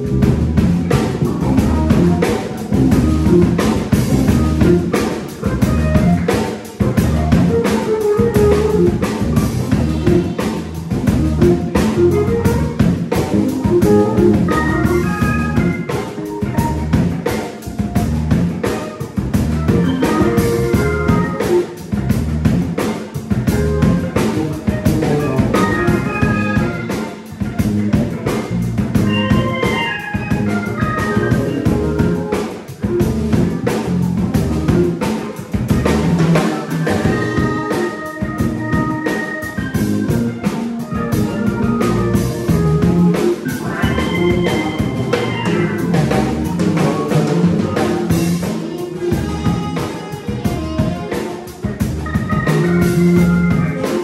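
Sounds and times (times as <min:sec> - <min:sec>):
live band playing instrumental tune: 0:00.0 - 0:54.0
steady drum beat: 0:00.0 - 0:54.0.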